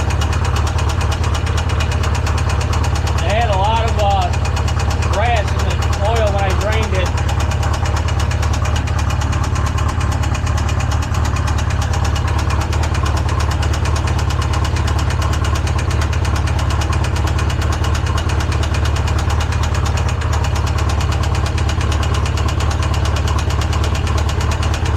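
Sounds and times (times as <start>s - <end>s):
engine idling: 0.0s - 24.9s.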